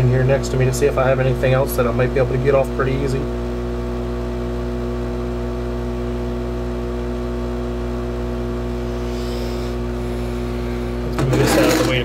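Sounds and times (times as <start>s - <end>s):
hot-air station humming: 0.0s - 12.0s.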